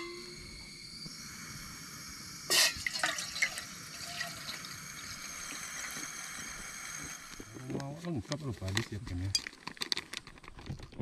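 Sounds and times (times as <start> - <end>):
water pouring into metal pot: 0.0 - 9.9.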